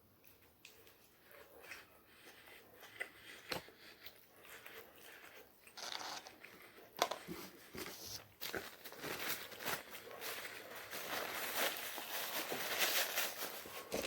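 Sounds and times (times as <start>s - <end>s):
crunchy chewing of food: 0.0s - 12.5s.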